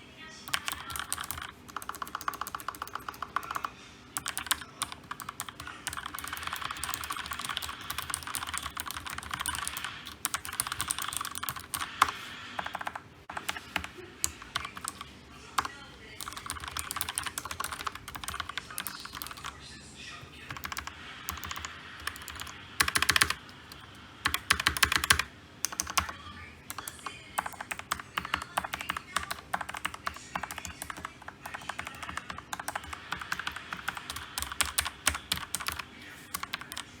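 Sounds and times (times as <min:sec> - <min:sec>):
keyboard typing: 0:00.5 - 0:19.6, 0:20.4 - 0:37.0.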